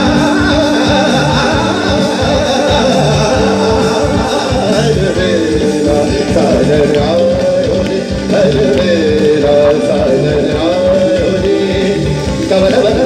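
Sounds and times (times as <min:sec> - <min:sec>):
band with keyboard bass and percussion: 0:00.0 - 0:13.0
man singing ornamented runs: 0:00.0 - 0:13.0.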